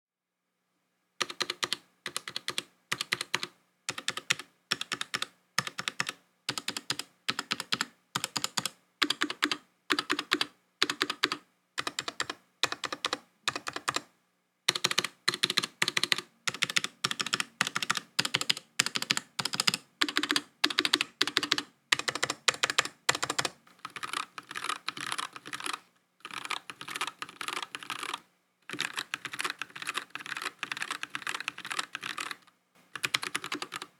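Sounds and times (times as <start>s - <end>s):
clacking mechanical keyboard typing: 1.2s - 14.1s, 14.7s - 33.9s.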